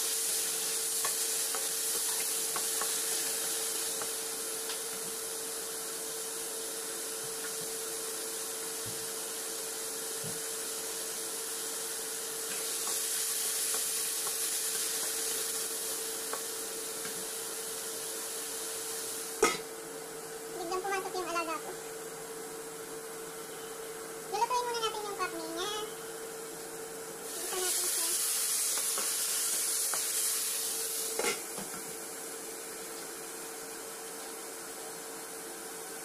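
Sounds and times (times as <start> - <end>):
meat sizzling in a wok: 0.0 - 23.4, 24.8 - 36.0.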